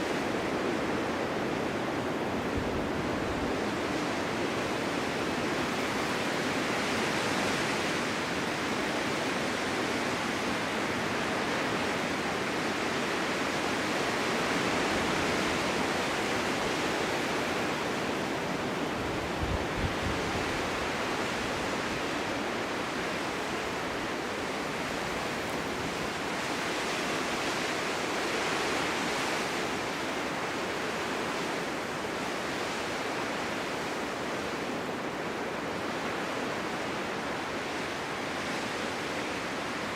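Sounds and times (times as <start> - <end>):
low wind buffet: 0.0 - 39.9
snowstorm wind blowing: 0.0 - 39.9.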